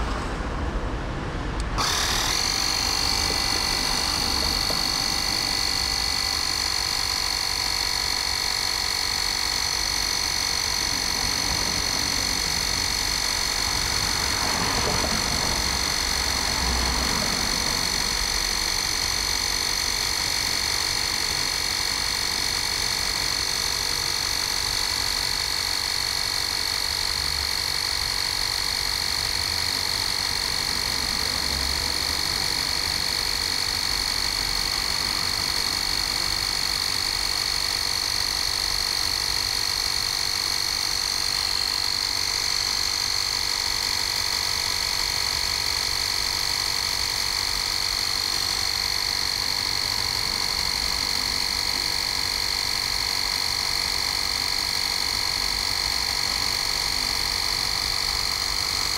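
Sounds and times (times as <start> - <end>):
mini compressor whining: 1.1 - 58.9.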